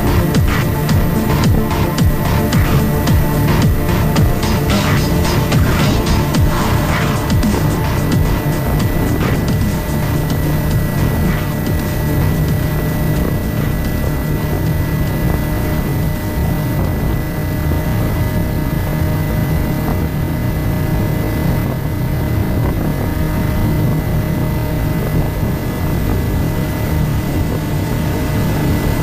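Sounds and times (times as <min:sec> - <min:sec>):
drone motors whirring: 0:00.0 - 0:29.0.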